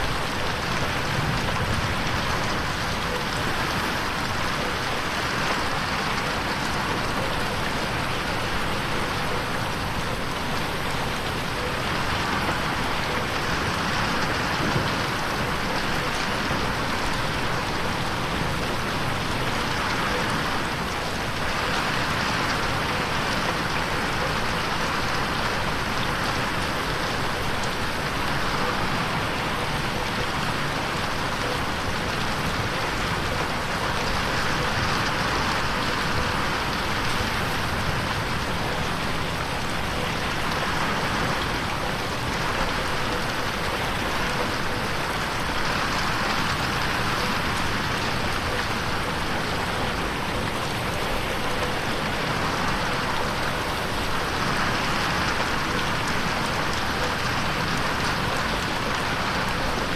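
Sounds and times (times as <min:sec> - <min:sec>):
rain pattering on a window: 0:00.0 - 0:59.9.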